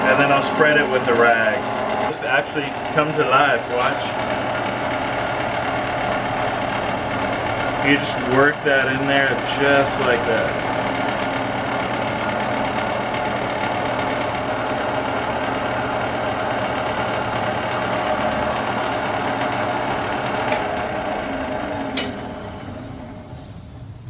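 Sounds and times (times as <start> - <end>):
wood lathe running: 0.0 - 24.0.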